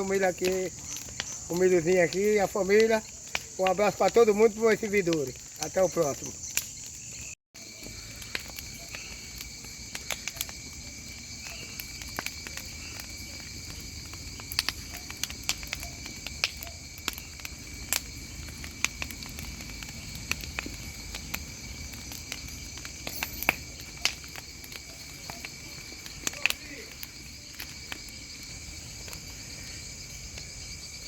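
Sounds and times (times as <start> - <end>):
bonfire crackling and popping: 0.0 - 31.0
crickets chirring: 0.0 - 31.0.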